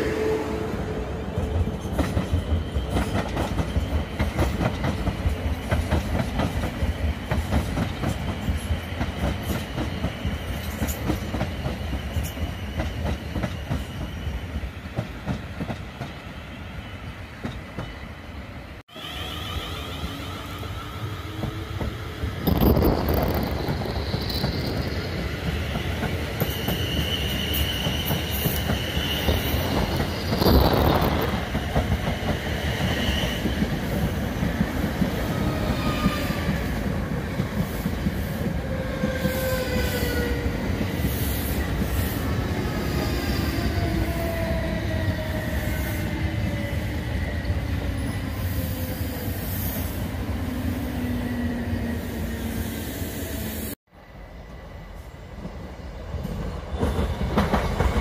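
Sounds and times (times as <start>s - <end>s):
train wheels squealing on rails: 0.0s - 58.0s.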